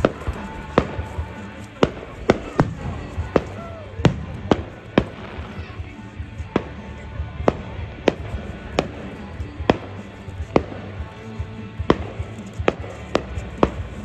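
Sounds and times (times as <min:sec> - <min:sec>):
background music: 0:00.0 - 0:14.0
fireworks bangs: 0:00.0 - 0:14.0.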